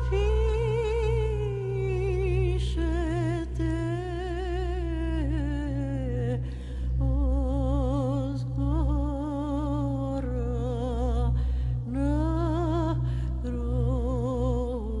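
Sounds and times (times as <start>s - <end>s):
low steady drone: 0.0s - 15.0s.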